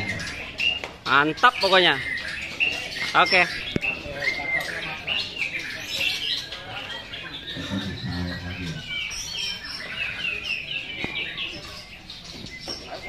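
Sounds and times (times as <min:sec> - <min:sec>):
other bird calls: 0:00.0 - 0:13.0.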